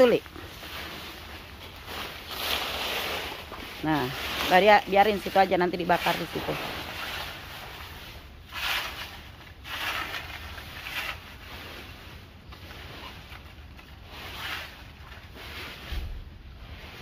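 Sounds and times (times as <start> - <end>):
dead leaves being swept: 0.0 - 17.0.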